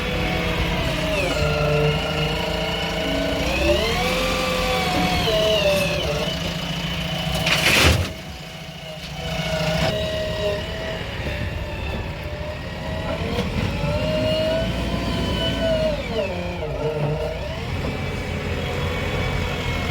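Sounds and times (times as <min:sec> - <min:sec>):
heavy diesel engine revving: 0:00.0 - 0:07.7, 0:08.4 - 0:19.9.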